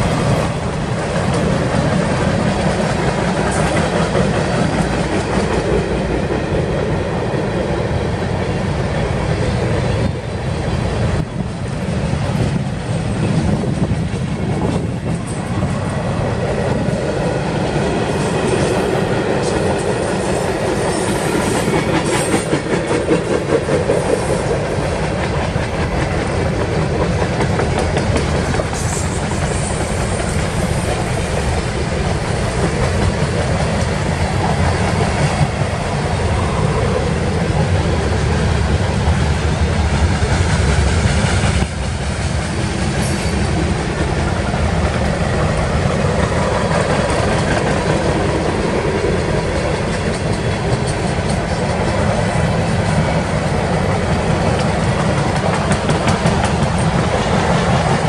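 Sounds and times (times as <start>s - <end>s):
freight train rolling past: 0.0s - 58.0s
steel wheels on rails: 0.0s - 58.0s.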